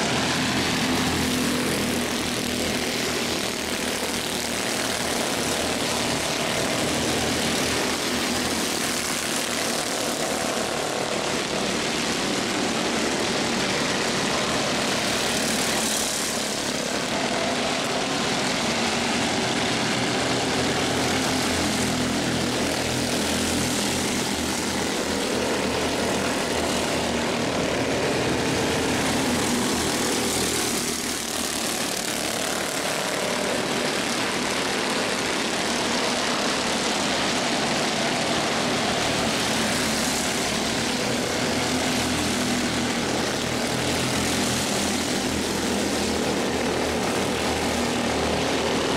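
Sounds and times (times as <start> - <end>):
race car engines at high revs: 0.0 - 48.9.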